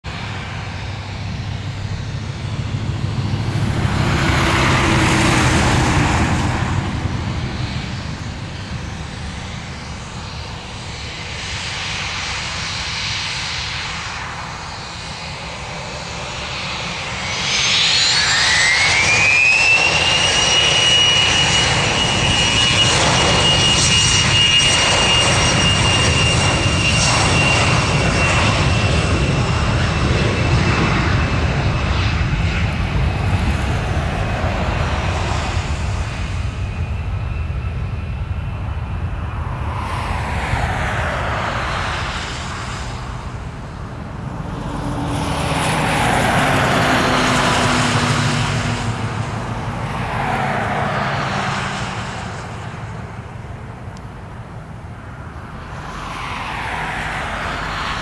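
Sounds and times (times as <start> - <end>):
jet engines rumbling and whining: 0.0 - 58.0.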